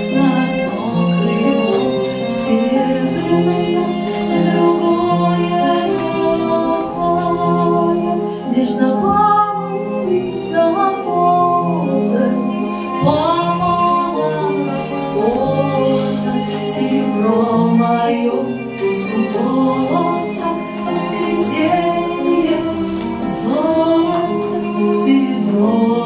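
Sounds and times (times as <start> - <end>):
sustained instrumental accompaniment: 0.0 - 26.0
woman singing: 0.0 - 26.0.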